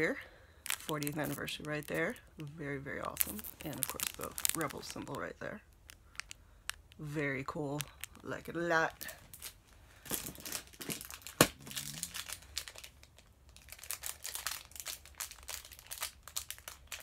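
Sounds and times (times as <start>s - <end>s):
plastic bags crinkling: 0.6s - 17.0s.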